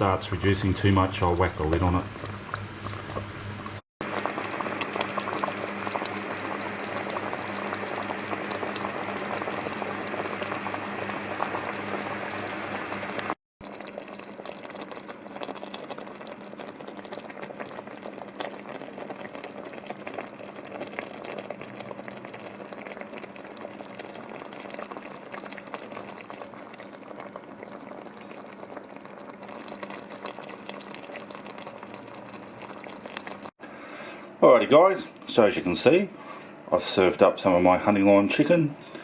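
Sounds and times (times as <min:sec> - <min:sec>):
sauce bubbling in a pan: 0:01.7 - 0:33.6.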